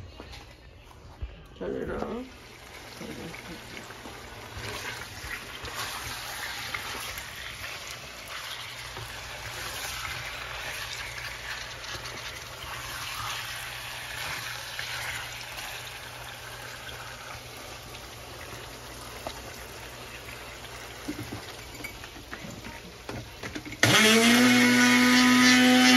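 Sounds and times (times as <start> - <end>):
chicken sizzling in oil: 2.1 - 25.9.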